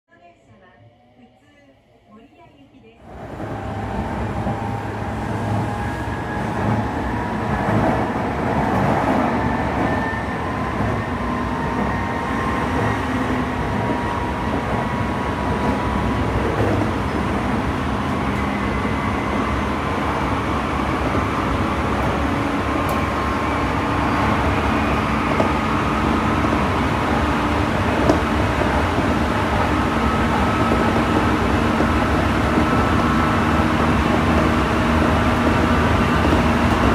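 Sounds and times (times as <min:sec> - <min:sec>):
train wheels rumbling on rail: 0:03.0 - 0:36.9.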